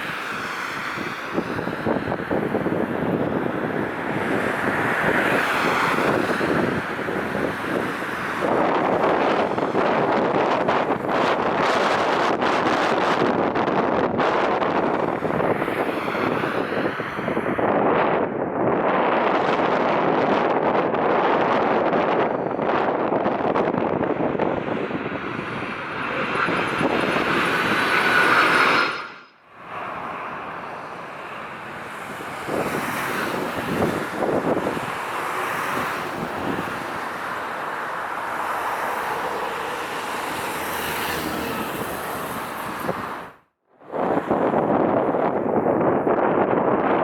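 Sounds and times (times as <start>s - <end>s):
jet engine noise: 0.0s - 18.1s, 21.6s - 43.3s
wind buffeting microphone: 0.0s - 47.0s.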